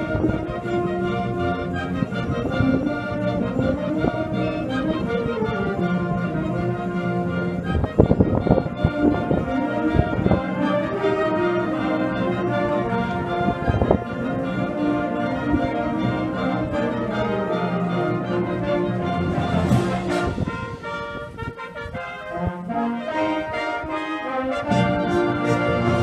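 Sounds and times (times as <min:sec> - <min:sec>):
brass band playing held chords: 0:00.0 - 0:26.0.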